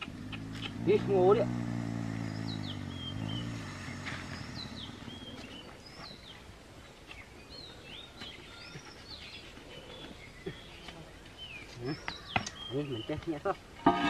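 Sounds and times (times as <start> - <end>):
birds chirping: 0.0 - 14.0
faint steady background noise: 0.0 - 14.0.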